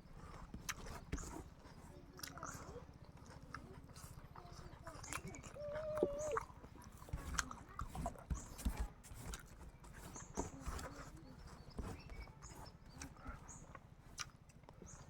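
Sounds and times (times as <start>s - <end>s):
chewing with wet smacks: 0.0s - 15.0s.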